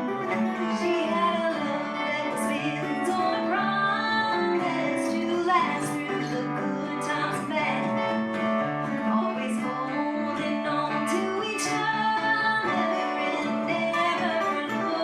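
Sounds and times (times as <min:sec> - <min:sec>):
acoustic guitar strumming: 0:00.0 - 0:15.0
person singing: 0:00.0 - 0:15.0.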